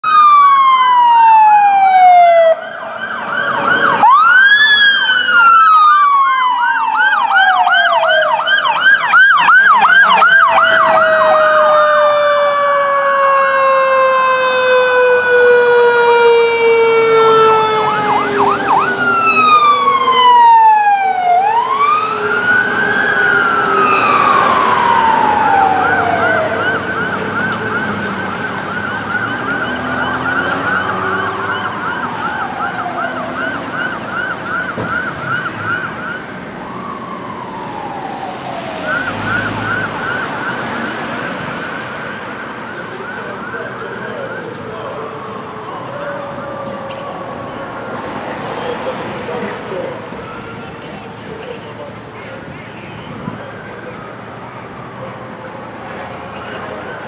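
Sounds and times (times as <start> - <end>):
siren tone sliding down: 0.0 - 50.9
fast siren yelp: 0.0 - 51.8
emergency vehicle sirens wailing: 0.0 - 57.0.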